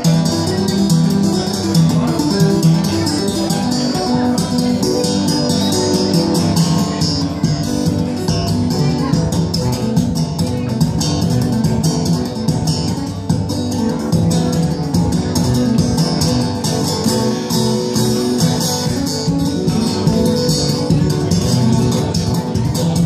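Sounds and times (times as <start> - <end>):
acoustic guitar: 0.0 - 23.0.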